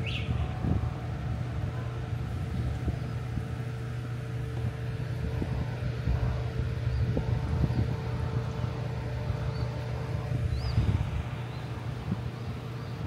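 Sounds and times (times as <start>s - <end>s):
faint steady whine: 0.0s - 13.0s
low machine hum: 0.0s - 13.0s
wind buffeting microphone: 0.0s - 13.0s.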